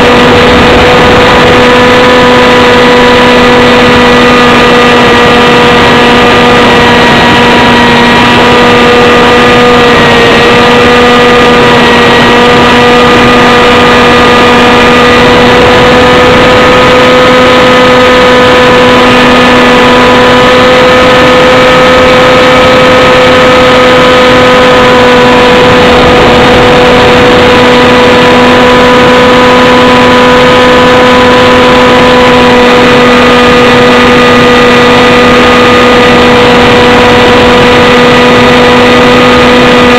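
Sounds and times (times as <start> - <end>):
small aircraft engine and propeller: 0.0 - 39.9.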